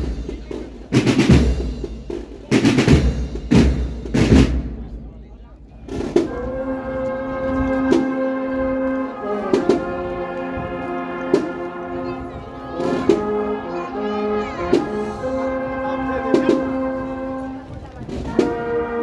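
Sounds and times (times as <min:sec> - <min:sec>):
brass band playing march: 0:00.0 - 0:05.0, 0:05.8 - 0:19.0.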